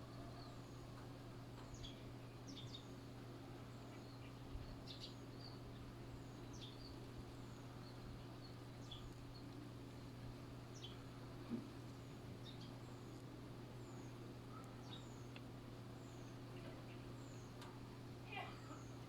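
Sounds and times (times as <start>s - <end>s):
birds chirping faintly: 0.0s - 19.0s
low background noise: 0.0s - 19.0s.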